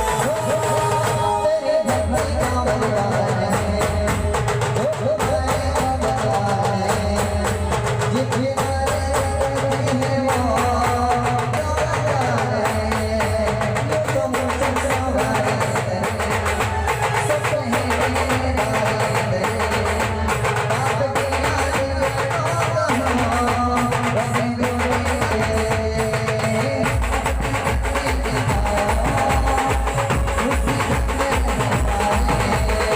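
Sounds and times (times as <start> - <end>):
fast heavy drumming: 0.0 - 32.9.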